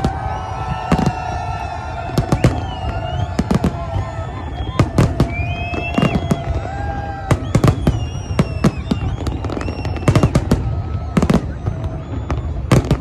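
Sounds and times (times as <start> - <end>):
gliding whistle-like tones: 0.0 - 12.9
fireworks bangs: 0.0 - 13.0.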